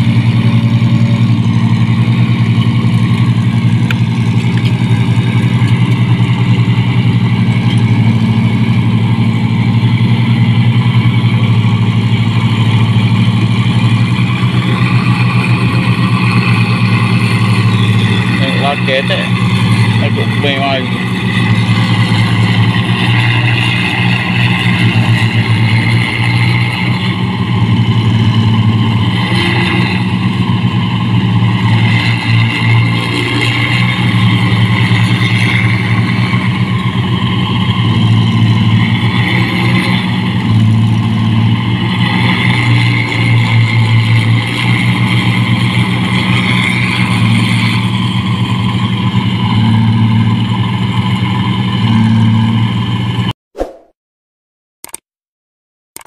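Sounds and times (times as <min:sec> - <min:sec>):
mechanical whine: 0:00.0 - 0:53.2
diesel engine running hard: 0:00.0 - 0:53.3.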